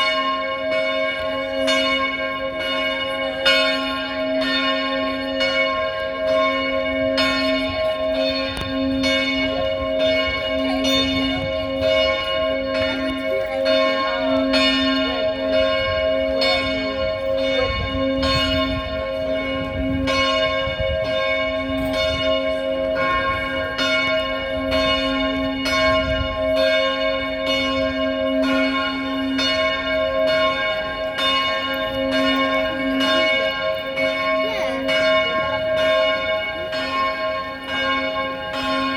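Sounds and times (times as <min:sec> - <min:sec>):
church bell tolling: 0:00.0 - 0:38.9.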